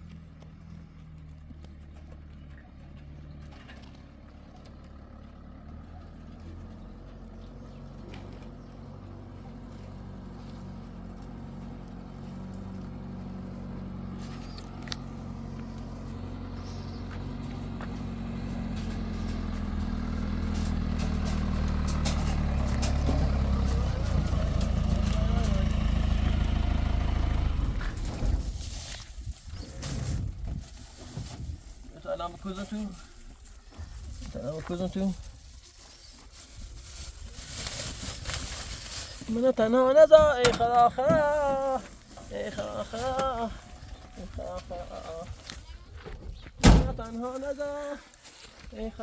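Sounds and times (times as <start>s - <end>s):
vehicle engine running at low revs: 0.0s - 40.2s.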